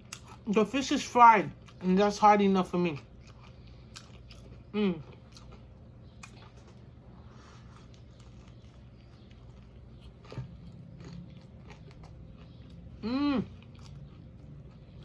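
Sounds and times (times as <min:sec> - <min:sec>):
person chewing and biting bread: 0:00.0 - 0:00.5, 0:02.9 - 0:15.0.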